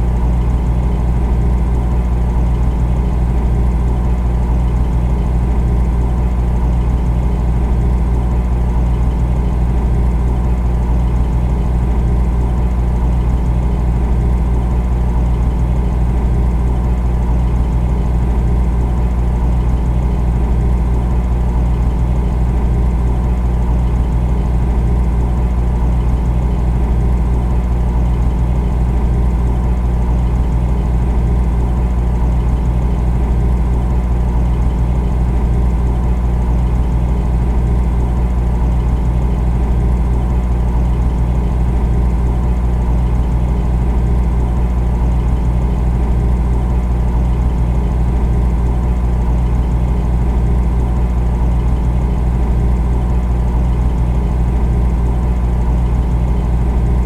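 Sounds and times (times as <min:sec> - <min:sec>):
refrigerator humming: 0:00.0 - 0:57.0.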